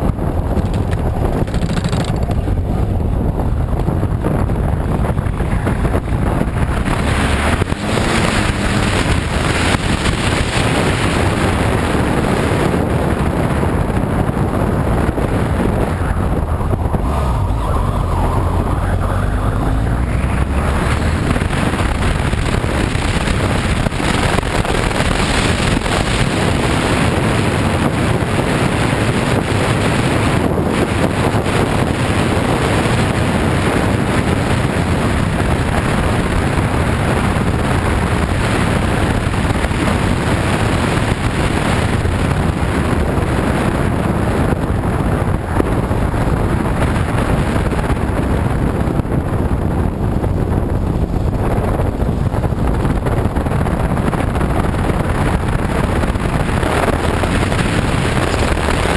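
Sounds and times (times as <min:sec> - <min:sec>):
motorcycle engine running: 0:00.0 - 0:58.9
wind buffeting microphone: 0:00.0 - 0:58.9.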